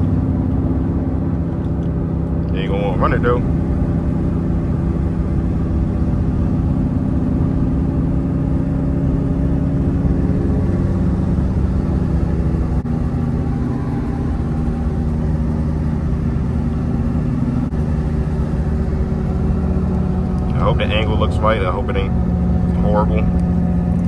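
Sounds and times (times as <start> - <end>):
car engine droning with loud exhaust: 0.0 - 24.0.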